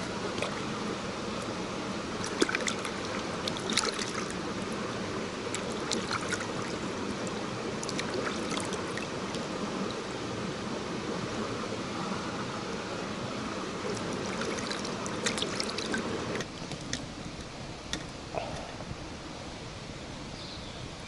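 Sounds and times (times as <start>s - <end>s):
flowing water: 0.0s - 21.0s.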